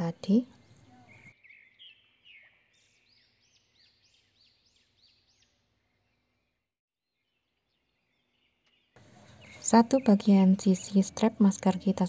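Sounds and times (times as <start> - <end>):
bird chirping: 0.3 - 12.0.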